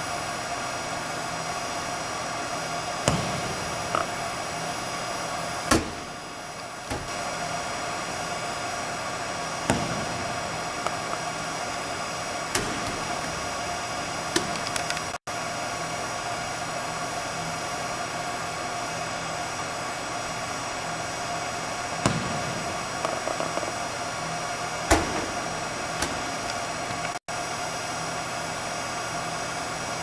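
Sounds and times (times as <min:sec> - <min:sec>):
air handling hiss and hum: 0:00.0 - 0:30.0.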